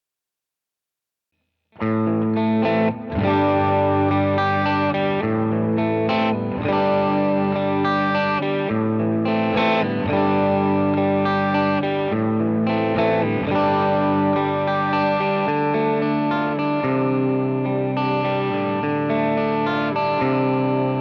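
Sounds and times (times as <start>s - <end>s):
electric guitar chords with effects: 1.8s - 21.0s.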